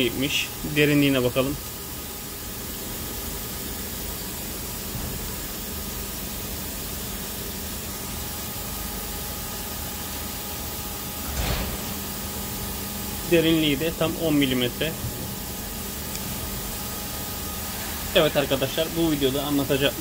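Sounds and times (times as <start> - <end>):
machine hiss and hum: 0.0 - 20.0.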